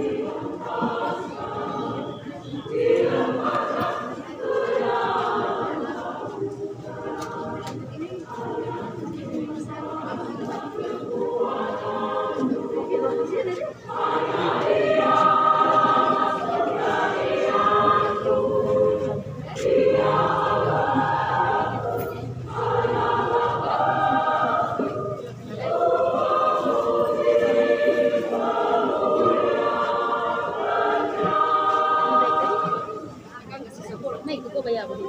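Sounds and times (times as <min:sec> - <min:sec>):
women's choir singing: 0:00.0 - 0:35.0.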